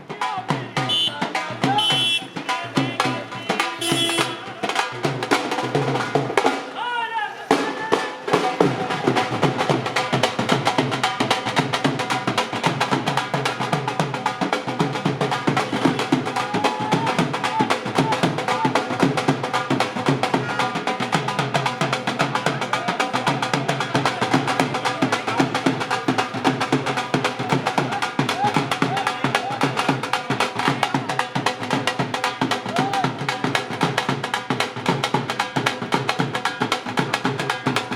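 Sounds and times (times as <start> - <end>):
fast continuous drumming: 0.0 - 6.8, 7.5 - 37.9.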